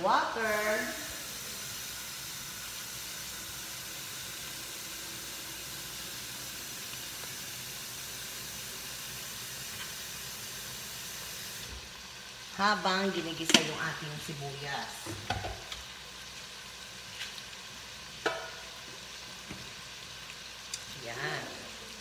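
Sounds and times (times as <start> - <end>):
meat and onion sizzling: 0.0 - 22.0.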